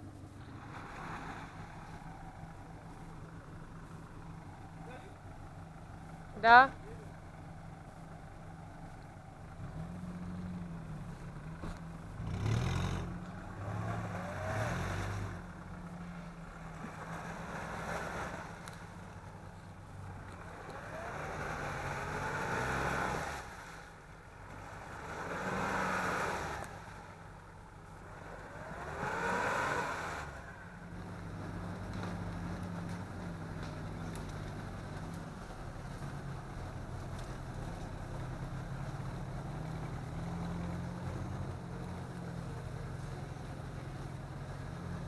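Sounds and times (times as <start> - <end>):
off-road engine revving: 0.0 - 45.0
wheels churning in mud: 0.0 - 45.0.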